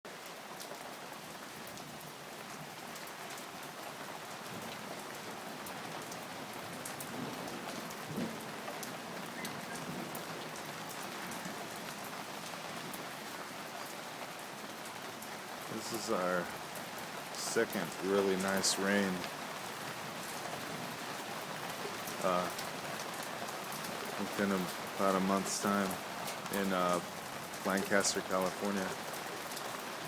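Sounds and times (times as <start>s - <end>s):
raindrops ticking on surfaces: 0.1s - 30.0s
steady rain falling: 0.1s - 30.0s.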